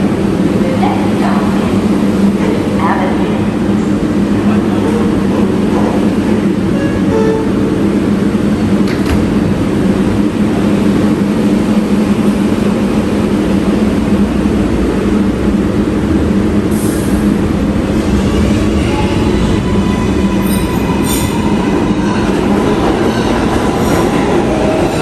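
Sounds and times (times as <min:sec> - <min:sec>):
subway train running: 0:00.0 - 0:25.0.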